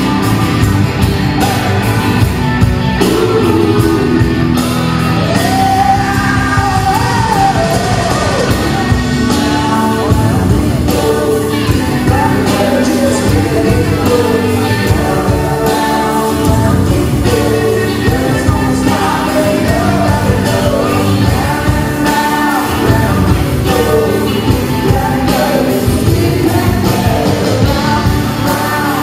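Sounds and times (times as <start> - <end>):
rock band playing live: 0.0 - 29.0
person singing: 1.3 - 29.0.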